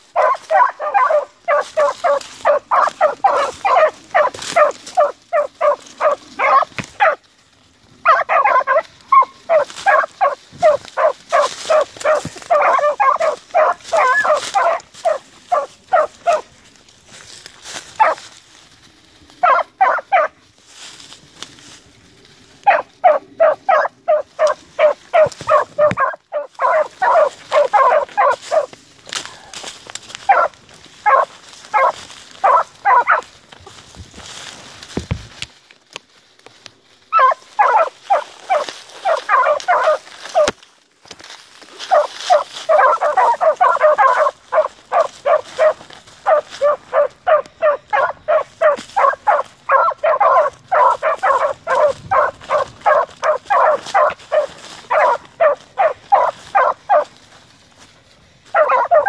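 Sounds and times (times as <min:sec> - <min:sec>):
hounds barking: 0:00.0 - 0:18.4, 0:19.4 - 0:20.5, 0:22.4 - 0:33.8, 0:37.1 - 0:40.6, 0:41.5 - 0:57.4, 0:58.4 - 0:59.0.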